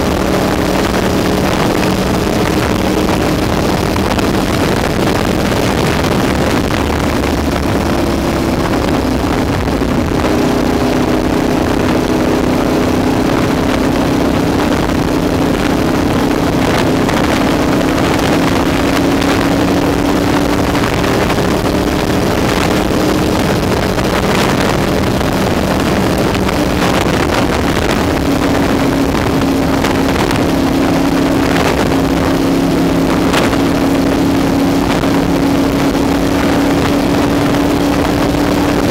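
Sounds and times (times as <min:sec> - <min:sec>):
motorcycle engine cruising: 0:00.0 - 0:38.9
wind rushing over microphone: 0:00.0 - 0:38.9.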